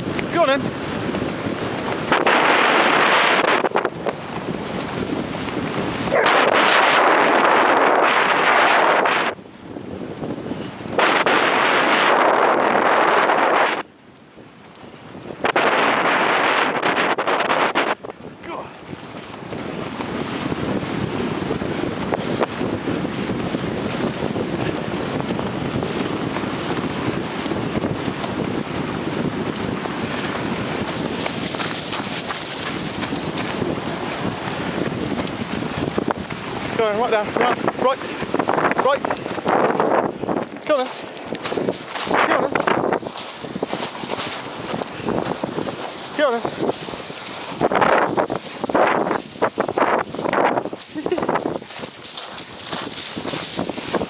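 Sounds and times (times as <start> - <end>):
dogs running on sand: 0.0 - 54.0
wind noise on microphone: 0.0 - 54.0.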